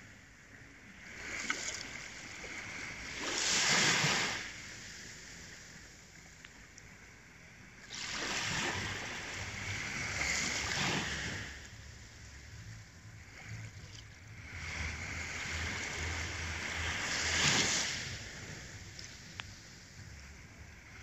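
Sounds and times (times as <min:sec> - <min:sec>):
waves washing on beach: 0:01.0 - 0:21.0.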